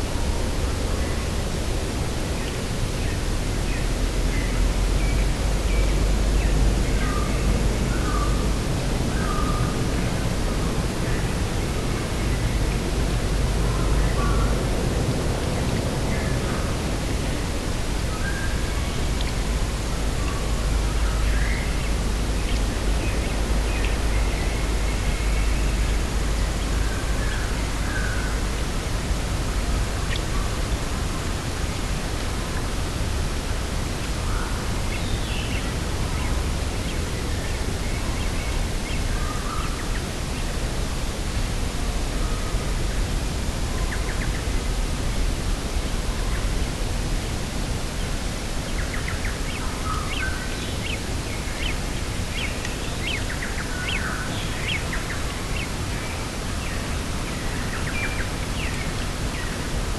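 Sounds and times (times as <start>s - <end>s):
wind noise: 0.0s - 59.9s
wind rumble on microphone: 0.0s - 59.9s.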